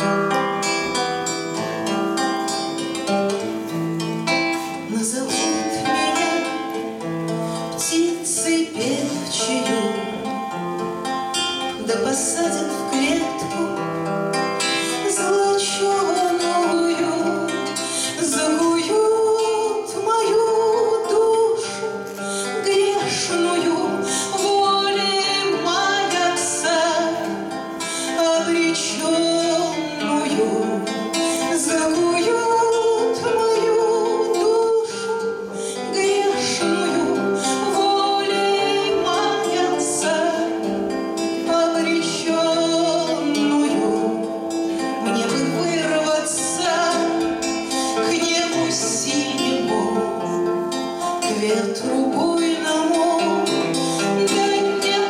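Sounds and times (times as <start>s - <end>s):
strummed acoustic guitar: 0.0s - 55.0s
woman singing: 0.0s - 55.0s.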